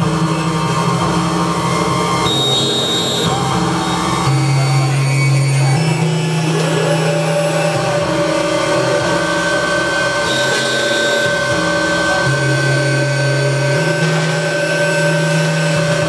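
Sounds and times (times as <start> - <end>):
low buzzing drone: 0.0 - 16.0
high steady tone: 0.6 - 16.0.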